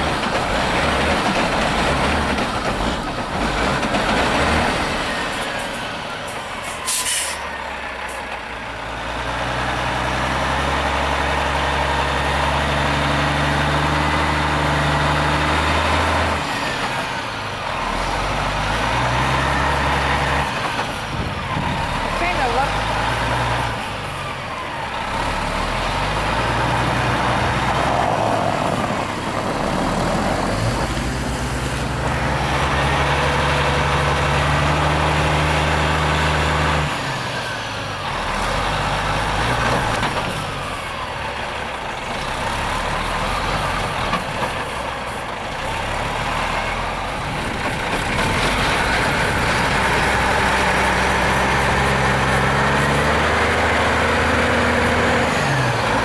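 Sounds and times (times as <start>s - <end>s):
truck diesel engine pulling hard: 0.0s - 56.0s.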